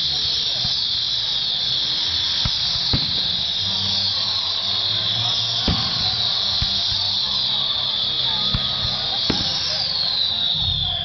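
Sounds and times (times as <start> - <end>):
faint falling whistles: 0.0 - 11.0
firework shells booming: 0.0 - 11.0
high fireworks hiss: 0.0 - 11.0.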